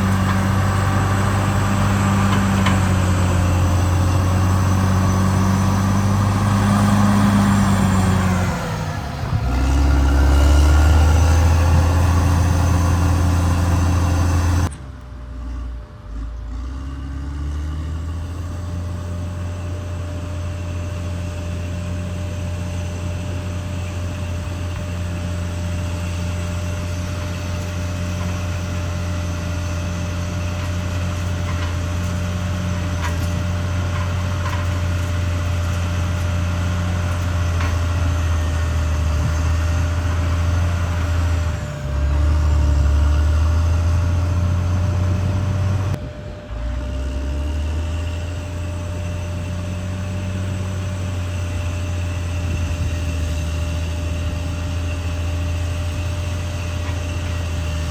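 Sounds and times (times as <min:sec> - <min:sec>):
bulldozer diesel engine: 0:00.0 - 0:57.9.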